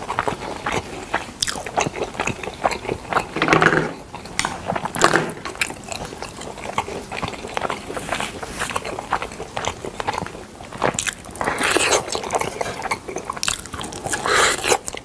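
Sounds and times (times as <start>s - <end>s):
close chewing and biting: 0.0s - 3.4s, 4.0s - 15.0s.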